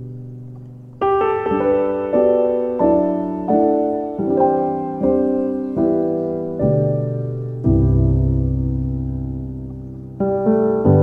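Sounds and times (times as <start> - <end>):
slow piano notes: 0.0 - 11.0.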